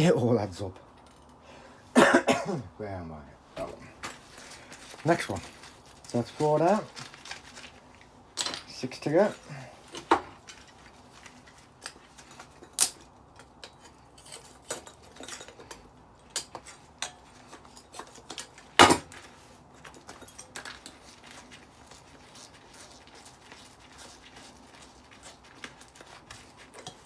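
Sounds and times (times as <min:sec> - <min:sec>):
metal parts and tools clinking: 0:03.6 - 0:27.0.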